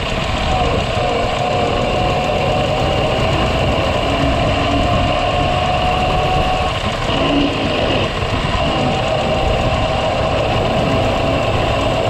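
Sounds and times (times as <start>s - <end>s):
car engine mechanical rumble: 0.0s - 12.0s
transmission whine: 0.0s - 12.0s.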